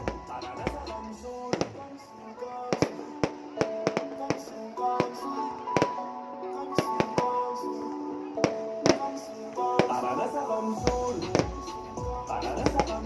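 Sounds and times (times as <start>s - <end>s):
music with held notes: 0.0s - 13.0s.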